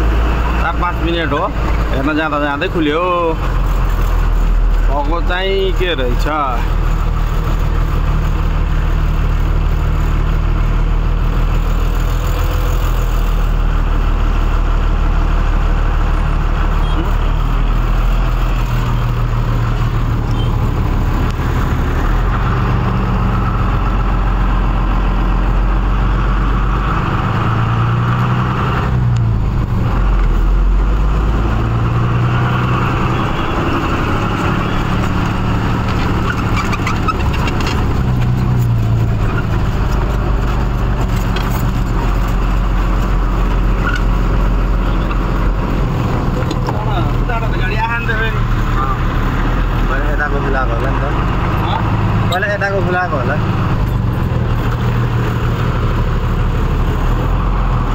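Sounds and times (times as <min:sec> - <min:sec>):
truck diesel engine running: 0:00.0 - 0:57.9.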